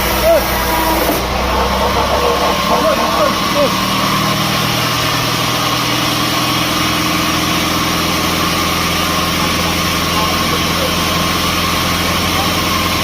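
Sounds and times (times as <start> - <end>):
high machine whine: 0.0 - 13.0
sawmill engine hum: 0.0 - 13.0.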